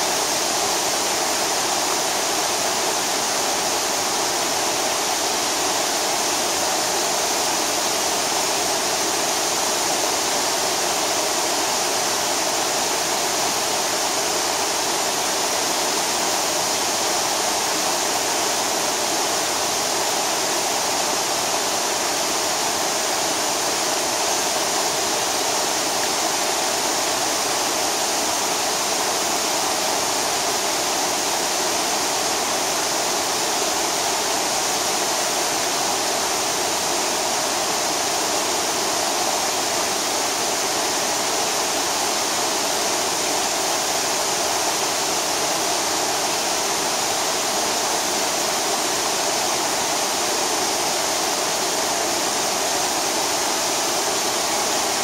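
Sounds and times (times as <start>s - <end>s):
waterfall cascading over rock: 0.0s - 55.0s.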